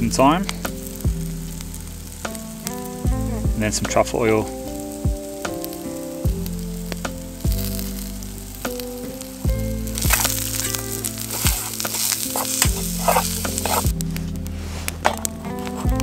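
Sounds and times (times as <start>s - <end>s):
food sizzling in frying pan: 0.0s - 16.0s
slow background music: 0.0s - 16.0s.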